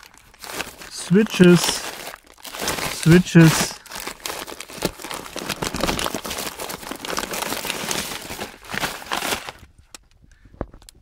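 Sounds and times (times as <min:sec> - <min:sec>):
plastic bags crinkling: 0:00.0 - 0:10.2.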